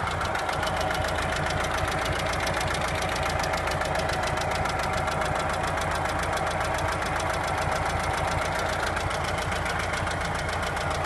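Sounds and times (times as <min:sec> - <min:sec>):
car engine idling with knocking: 0:00.0 - 0:11.0.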